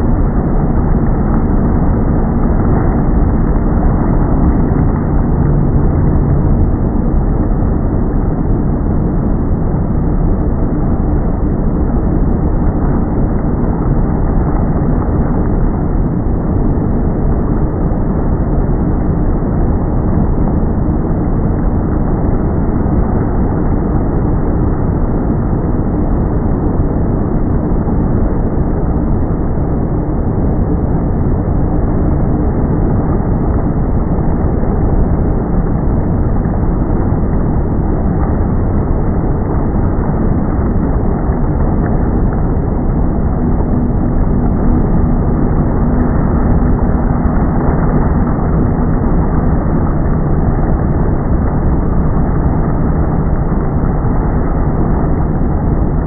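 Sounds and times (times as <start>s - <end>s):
faint steady hum: 0.0s - 56.0s
loud low rumble: 0.0s - 56.0s.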